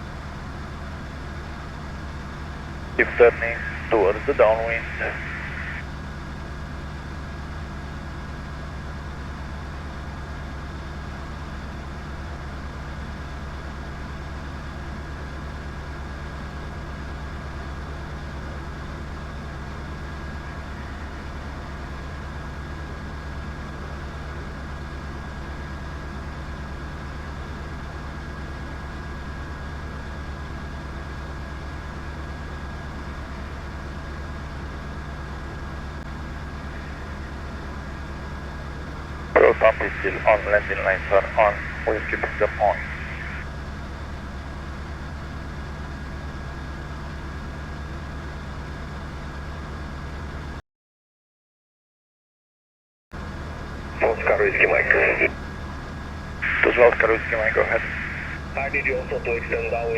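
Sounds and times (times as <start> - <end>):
propeller plane engine droning: 0.0 - 50.4, 53.2 - 59.9.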